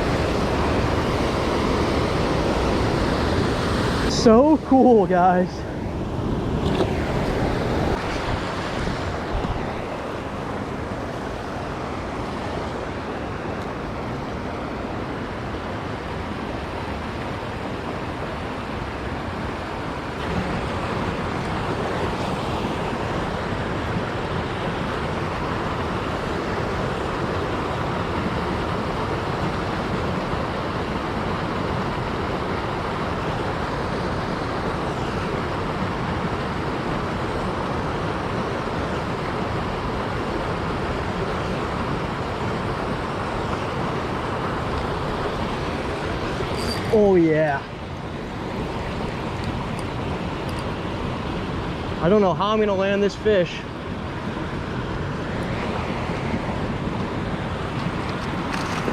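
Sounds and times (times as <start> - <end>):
flowing river water: 0.0 - 58.9.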